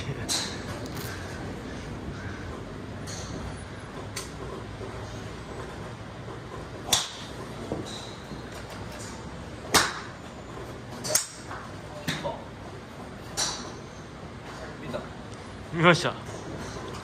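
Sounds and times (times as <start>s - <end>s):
golf clubs striking balls: 0.1s - 15.4s, 16.2s - 17.0s.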